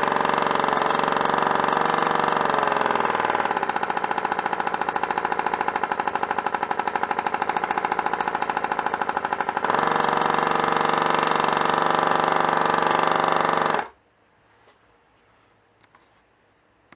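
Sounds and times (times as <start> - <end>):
compressed-air engine running: 0.0 - 14.0.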